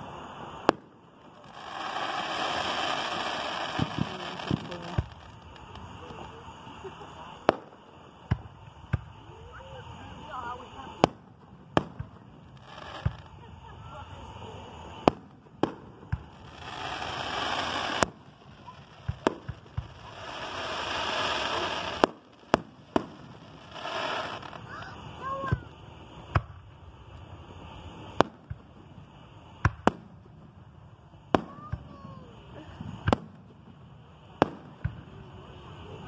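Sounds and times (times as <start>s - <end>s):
fireworks bangs: 0.0s - 36.0s
fireworks hissing: 0.0s - 36.0s.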